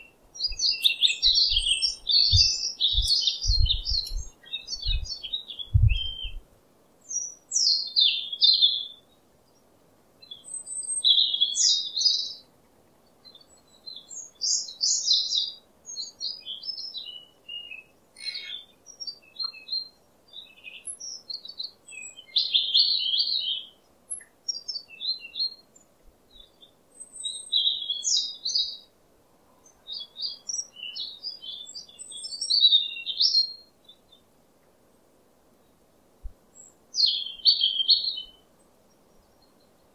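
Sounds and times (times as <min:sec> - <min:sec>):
songbird chirping and trilling: 0:00.0 - 0:34.7, 0:35.6 - 0:39.9.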